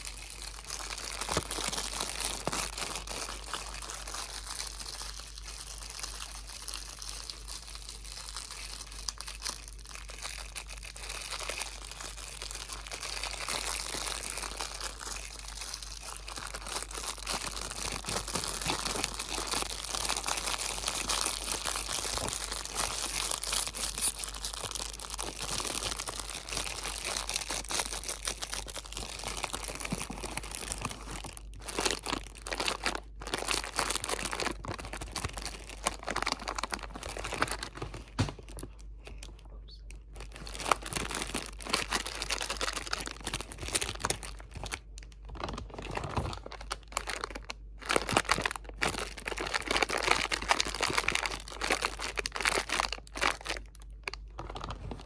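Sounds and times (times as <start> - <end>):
crinkling material: 0.0 - 55.0.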